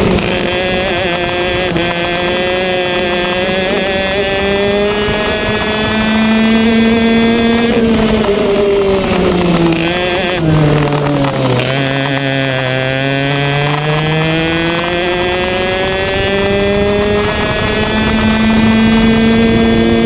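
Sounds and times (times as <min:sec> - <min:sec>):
racing kart engine: 0:00.0 - 0:20.0.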